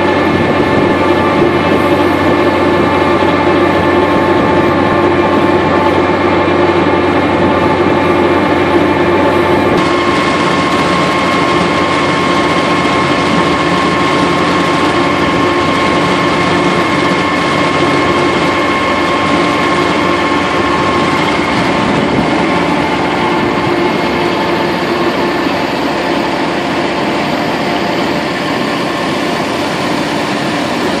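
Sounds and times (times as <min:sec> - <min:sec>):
high whine: 0:00.0 - 0:31.0
tractor and feed mixer running: 0:00.0 - 0:31.0.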